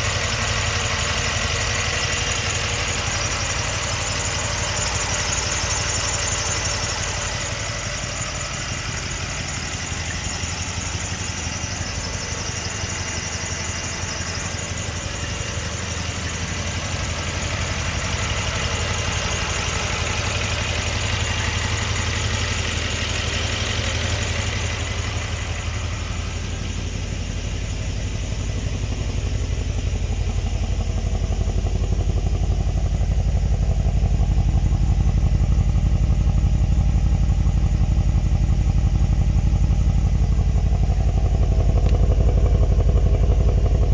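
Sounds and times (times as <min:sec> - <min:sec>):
car engine idling: 0:00.0 - 0:43.9
low exhaust note: 0:04.3 - 0:43.9.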